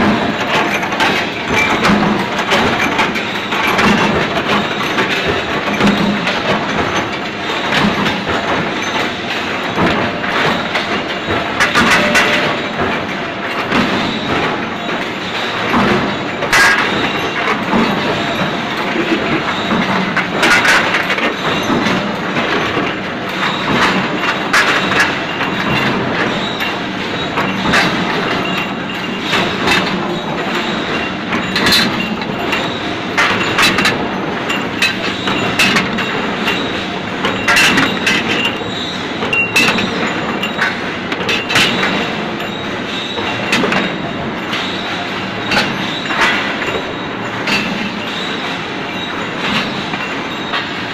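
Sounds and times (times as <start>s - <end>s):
machine mechanical clatter: 0.0s - 50.9s
sharp metallic clicks and clanks: 0.0s - 50.9s.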